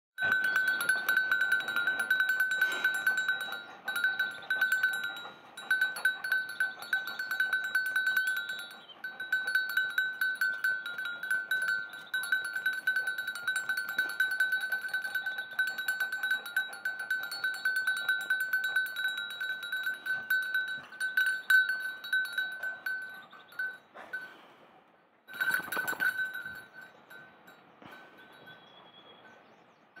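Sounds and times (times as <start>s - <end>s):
dog collar bell ringing: 0.2s - 24.4s, 25.3s - 29.4s.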